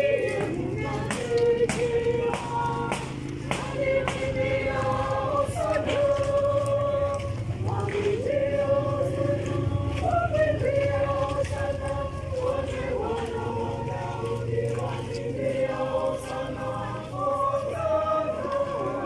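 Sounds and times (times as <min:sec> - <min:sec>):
group singing a hymn: 0:00.0 - 0:19.0.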